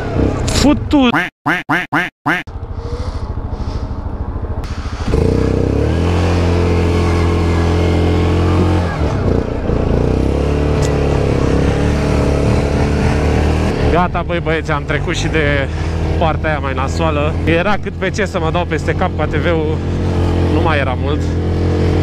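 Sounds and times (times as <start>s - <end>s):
atv engine pulling uphill: 0.0s - 1.1s, 2.3s - 22.0s.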